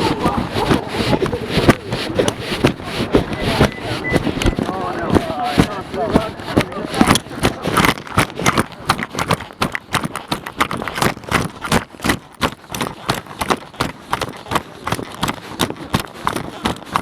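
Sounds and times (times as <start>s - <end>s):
quick footsteps with sharp taps: 0.0s - 17.0s.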